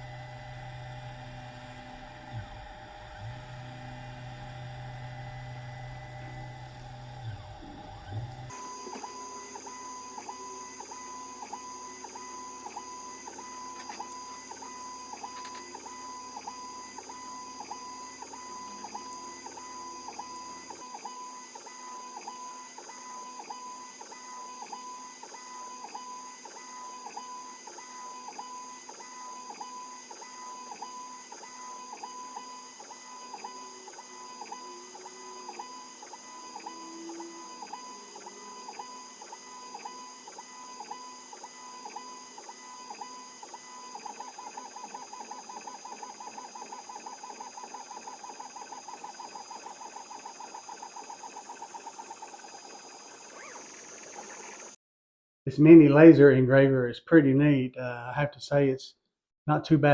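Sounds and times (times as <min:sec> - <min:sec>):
laser engraver motors whining: 0:00.0 - 0:54.8.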